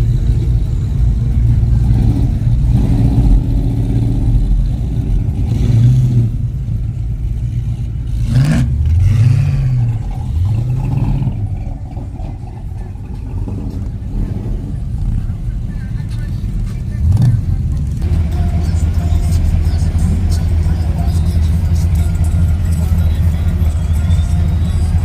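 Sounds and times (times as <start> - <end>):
car engine revving in blips: 0.0 - 25.0.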